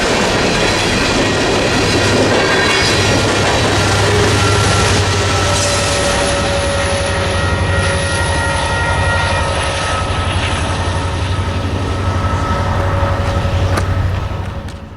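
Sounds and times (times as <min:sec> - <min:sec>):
freight train wheels rumbling: 0:00.0 - 0:14.9
train wheels squealing: 0:00.0 - 0:14.9.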